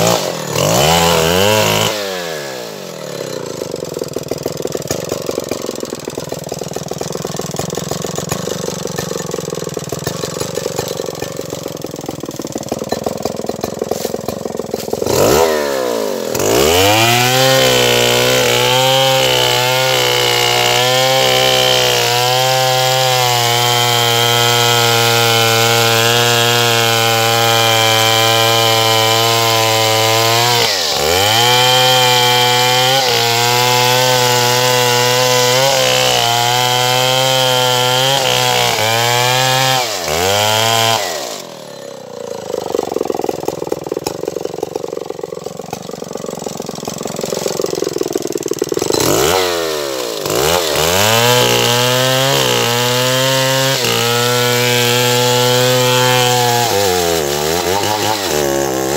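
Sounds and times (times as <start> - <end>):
chainsaw sawing through log: 0.0 - 58.9.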